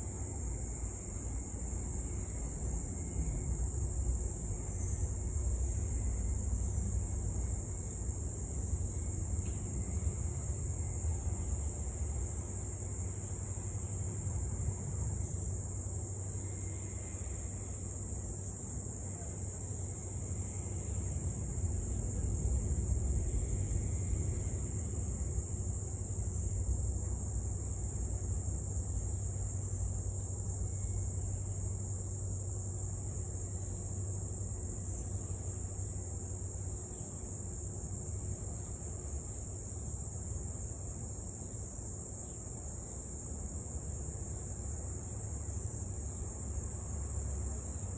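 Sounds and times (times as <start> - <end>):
low steady rumble: 0.0 - 42.8
insects chorus: 0.0 - 47.9.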